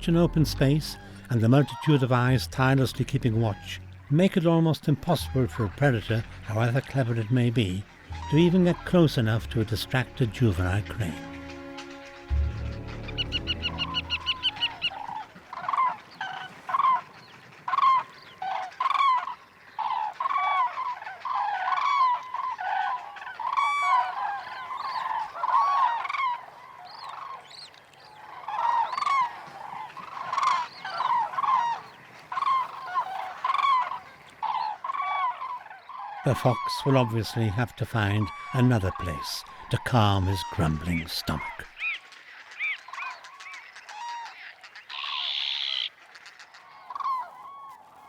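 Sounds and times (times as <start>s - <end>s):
cranes trumpeting calls: 5.0s - 48.0s.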